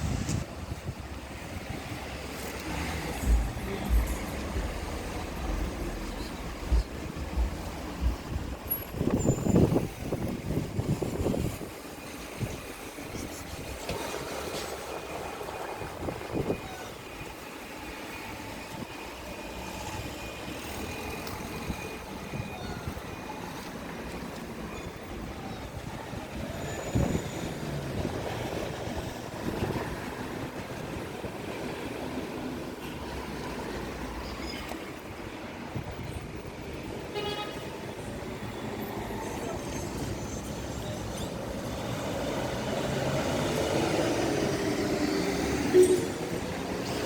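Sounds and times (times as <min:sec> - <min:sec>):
street traffic rumble: 0:00.0 - 0:47.0.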